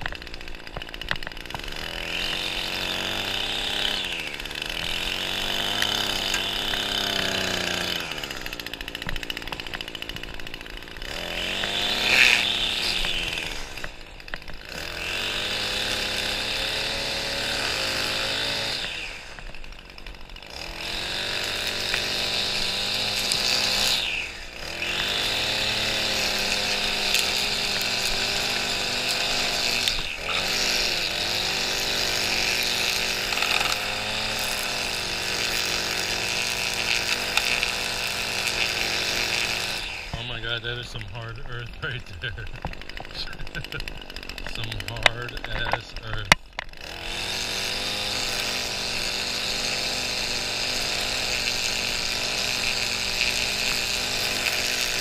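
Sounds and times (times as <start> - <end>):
string trimmer revving: 0.0 - 55.0.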